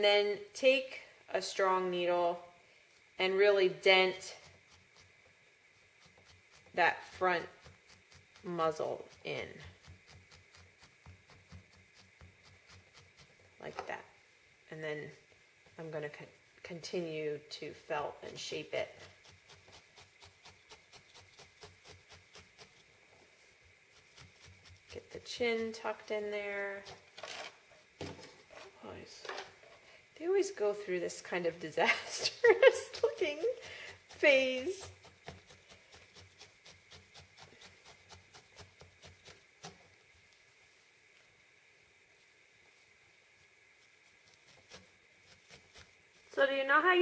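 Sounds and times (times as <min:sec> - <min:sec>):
felting needle poking wool: 0:01.6 - 0:14.1, 0:15.2 - 0:28.8, 0:30.2 - 0:40.5, 0:43.4 - 0:46.7.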